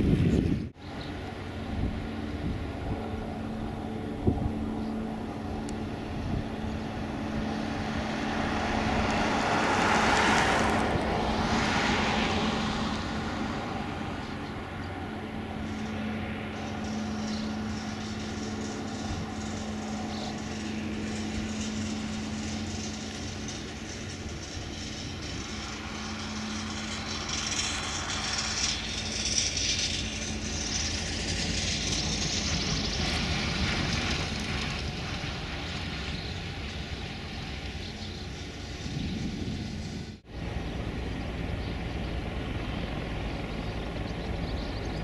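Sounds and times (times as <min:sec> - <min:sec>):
broad rushing sound: 0:00.0 - 0:44.4
plane piston engine droning: 0:00.0 - 0:45.0.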